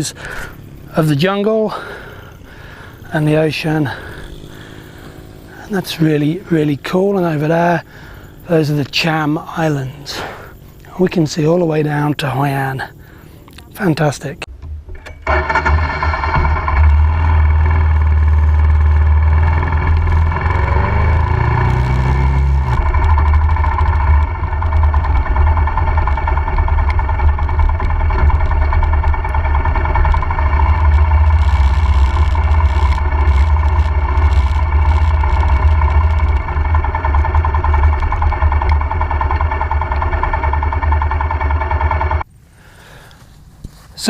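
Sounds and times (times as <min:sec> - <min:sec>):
motorbike engine accelerating: 0:00.0 - 0:10.5, 0:11.3 - 0:42.3.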